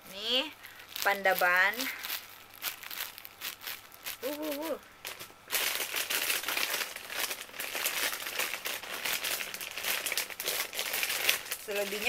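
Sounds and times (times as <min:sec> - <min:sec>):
plastic bags crinkling: 0:00.3 - 0:12.0.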